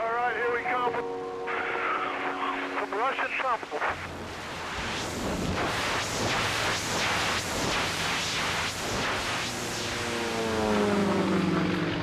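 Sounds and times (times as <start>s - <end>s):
plane radial engine and propeller: 0.0s - 12.0s.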